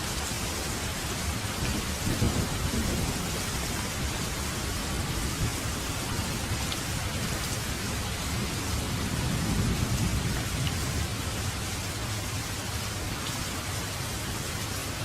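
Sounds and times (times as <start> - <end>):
heavy rain hissing: 0.0 - 15.0
thunder rumble: 0.8 - 12.8.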